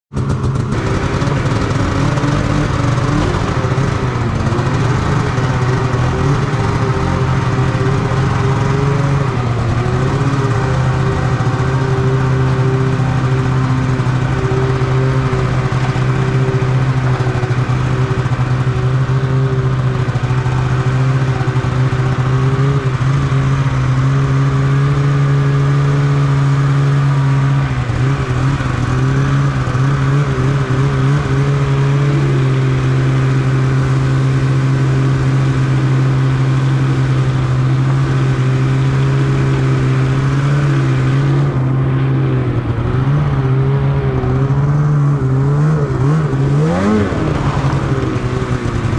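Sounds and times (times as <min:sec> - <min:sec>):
snowmobile engine running: 0:00.1 - 0:48.9.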